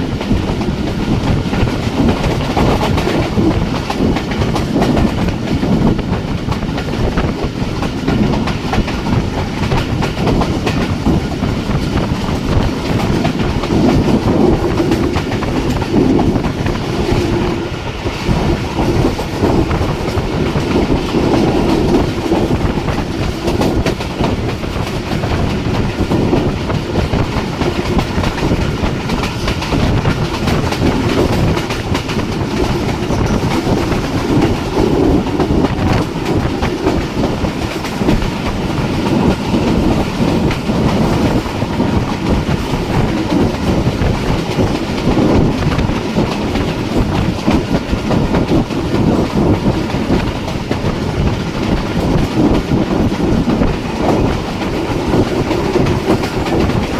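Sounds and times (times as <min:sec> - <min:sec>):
train rumbling at speed: 0:00.0 - 0:56.9.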